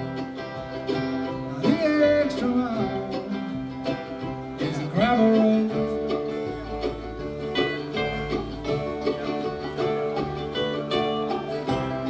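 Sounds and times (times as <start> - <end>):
bluegrass band playing: 0.0 - 12.0.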